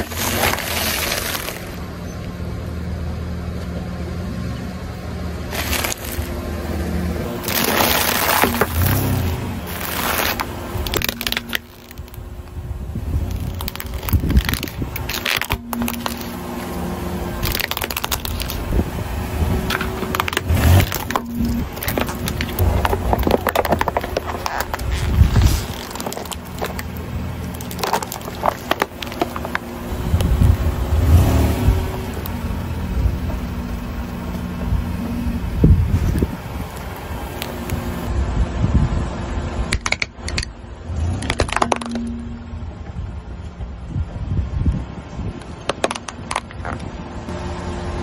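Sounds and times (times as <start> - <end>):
car tyre crushing small objects: 0.0 - 1.9, 5.4 - 38.1, 39.7 - 42.9, 45.4 - 47.0
low rumble: 0.0 - 45.5.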